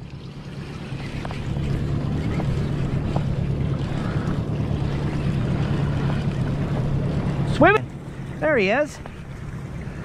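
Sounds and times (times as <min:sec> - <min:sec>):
outboard motor running: 0:00.0 - 0:10.0
water noise: 0:00.0 - 0:10.0.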